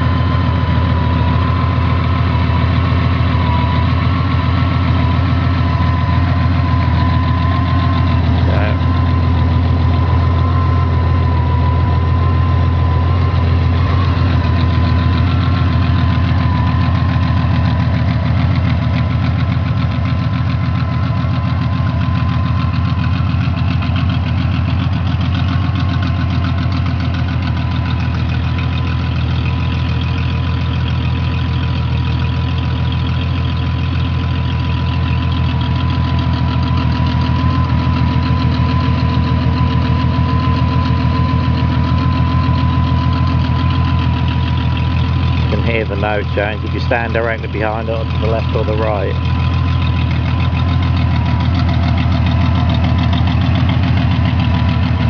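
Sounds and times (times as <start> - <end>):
engine idling through open exhausts: 0.0 - 55.0.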